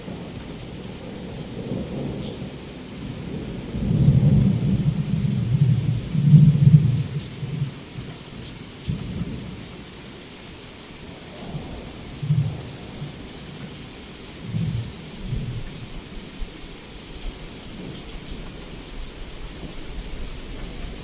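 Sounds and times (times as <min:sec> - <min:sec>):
thunder rumbling: 0:00.0 - 0:08.1, 0:11.0 - 0:21.0
heavy rain pouring: 0:00.0 - 0:21.0.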